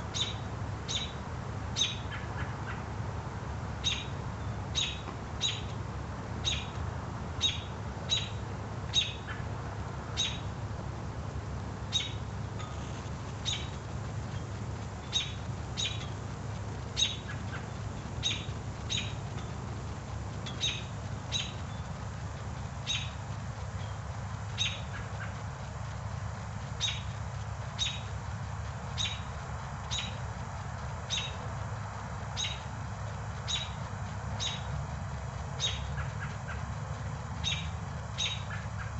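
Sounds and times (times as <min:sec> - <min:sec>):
birds chirping: 0:00.0 - 0:02.9, 0:03.8 - 0:10.7, 0:11.5 - 0:38.9
low steady hum: 0:00.0 - 0:38.9.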